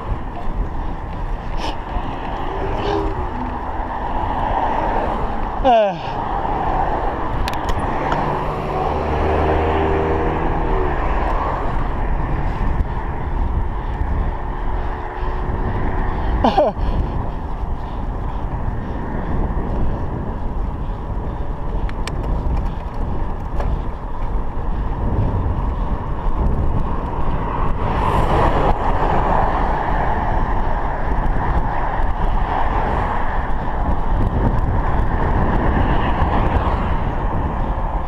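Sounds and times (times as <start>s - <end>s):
cars passing: 0.0s - 38.0s
wind rumble on microphone: 0.0s - 38.0s.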